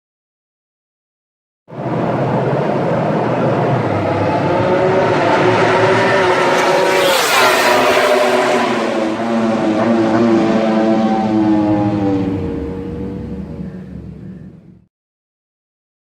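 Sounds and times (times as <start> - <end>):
racing motorcycle passing by: 1.8 - 14.6.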